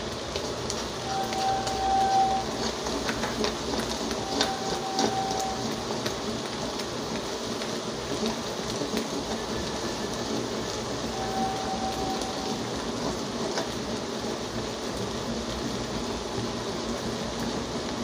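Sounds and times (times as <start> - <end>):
eggs sizzling in oil: 0.0 - 18.0.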